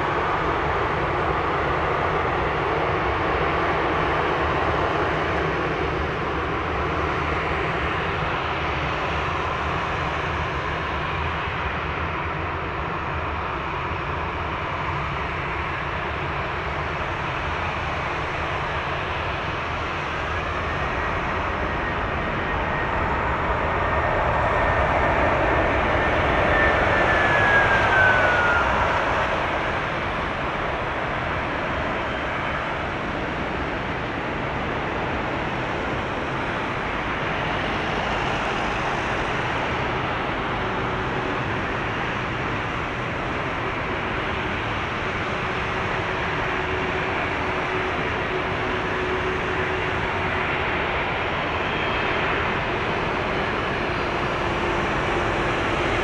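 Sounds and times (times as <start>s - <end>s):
jet engine rush: 0.0s - 56.0s.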